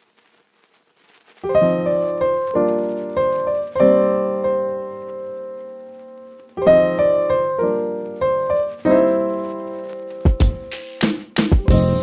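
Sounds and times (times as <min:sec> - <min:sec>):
piano chords: 0:01.4 - 0:12.0.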